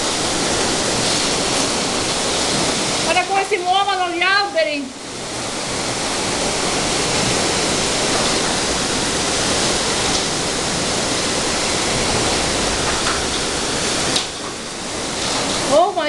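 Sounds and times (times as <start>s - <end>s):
heavy rain: 0.0s - 16.0s
strong wind lashing trees: 0.0s - 16.0s.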